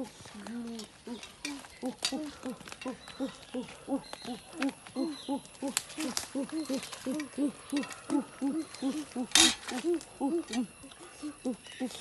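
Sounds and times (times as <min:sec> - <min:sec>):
faint clicks: 0:00.2 - 0:11.6.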